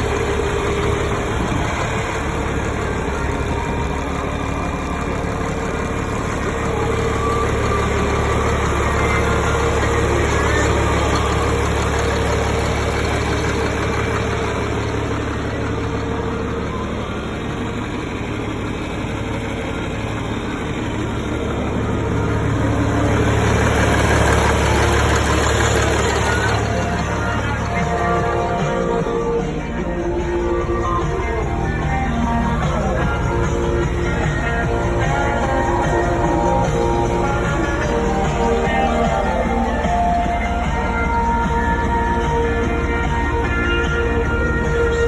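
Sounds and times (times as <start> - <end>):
diesel tractor engine idling: 0.0 - 45.0.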